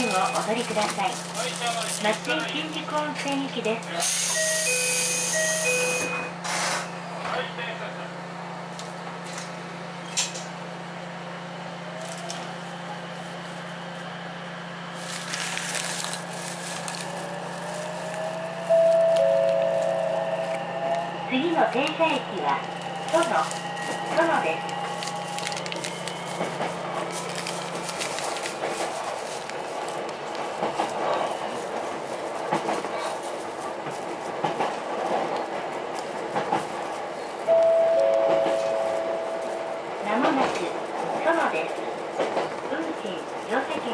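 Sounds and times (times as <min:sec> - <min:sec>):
electric train running hum: 0:00.0 - 0:43.9.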